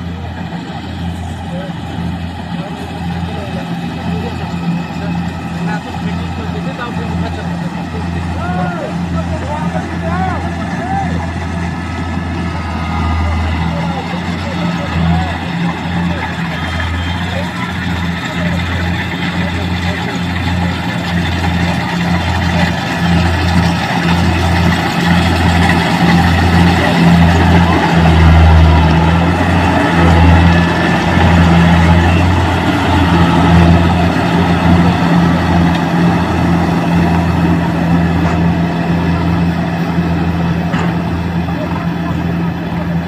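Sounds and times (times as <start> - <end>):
diesel engine drone: 0.0 - 43.0
machinery clattering: 0.3 - 43.0.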